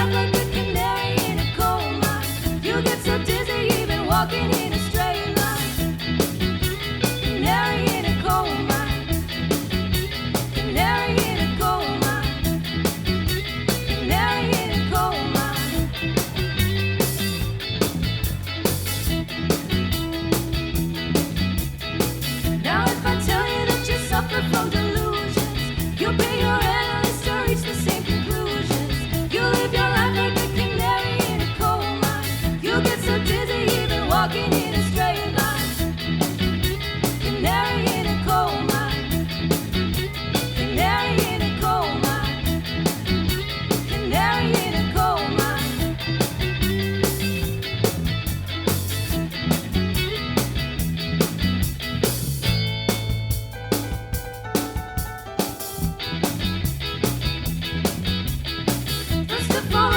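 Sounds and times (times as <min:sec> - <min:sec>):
rock band playing ska song: 0:00.0 - 0:59.9.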